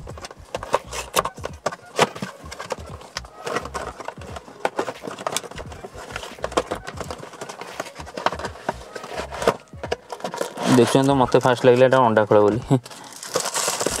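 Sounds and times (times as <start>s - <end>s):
cardboard box being opened: 0.0s - 11.1s, 13.1s - 14.0s.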